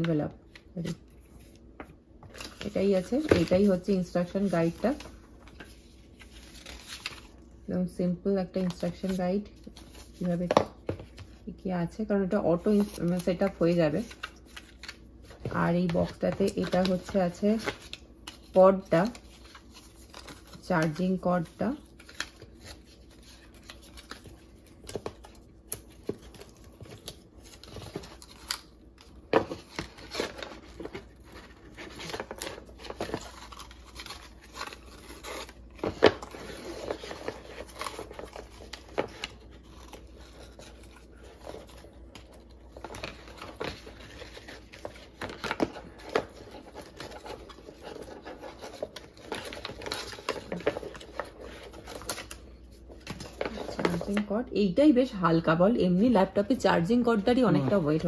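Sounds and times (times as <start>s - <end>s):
paper and cardboard rustling: 0.0s - 7.4s, 12.3s - 54.3s.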